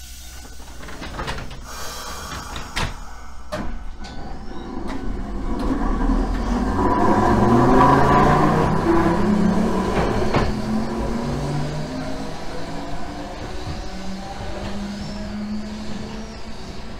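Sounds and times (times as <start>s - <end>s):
tram doors closing: 0.0s - 16.9s
tram motors and wheels: 0.0s - 16.9s.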